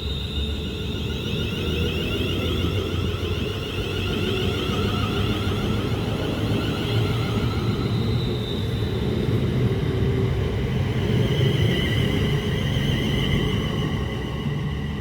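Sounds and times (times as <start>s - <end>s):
electric train rumbling and whining: 0.0s - 15.0s.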